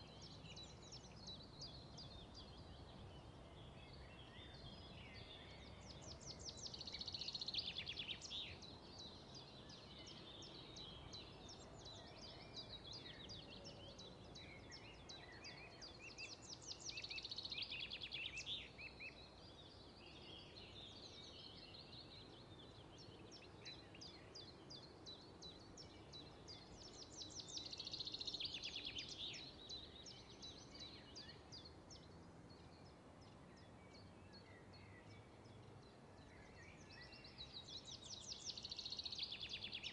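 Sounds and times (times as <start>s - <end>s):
faint small birds chirping: 0.0s - 39.9s.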